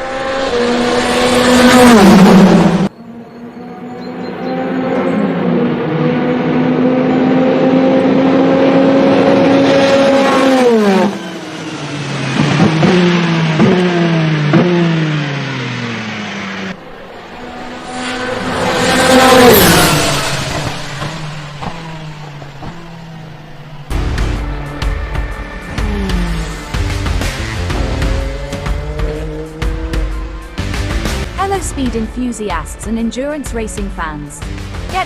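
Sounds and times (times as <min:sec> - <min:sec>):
car downshifts: 0:00.0 - 0:31.2
race car engine at high revs: 0:00.0 - 0:31.4
race car passing at speed: 0:00.0 - 0:31.4.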